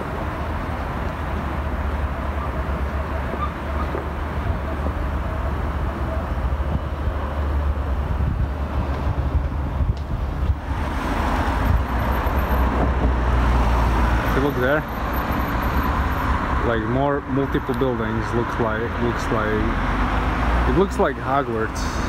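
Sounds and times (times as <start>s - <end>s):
distant road traffic rumble: 0.0s - 22.0s.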